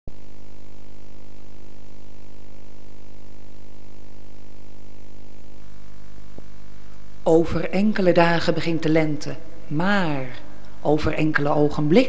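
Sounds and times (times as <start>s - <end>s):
buzzy mains hum: 0.1s - 12.0s
constant hiss: 0.1s - 12.0s.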